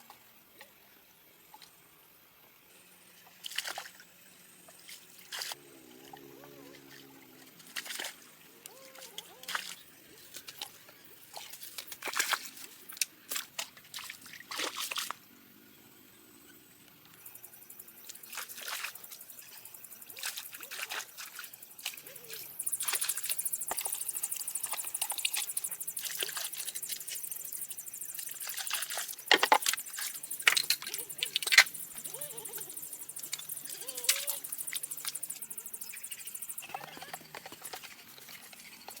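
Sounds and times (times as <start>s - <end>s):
water splashing and trickling: 0.0s - 15.4s, 17.2s - 39.0s.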